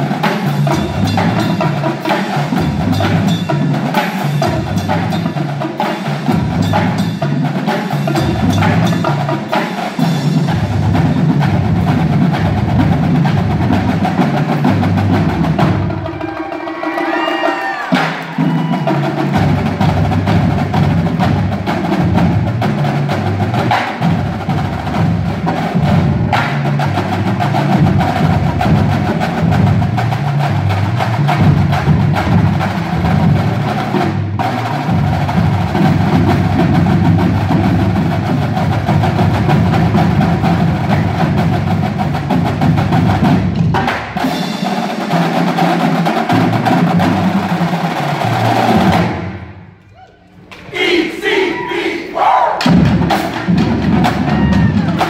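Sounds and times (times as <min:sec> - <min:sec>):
tenor and bass drums: 0:00.0 - 0:49.7, 0:52.1 - 0:55.0
snare drum rolls: 0:00.0 - 0:55.0.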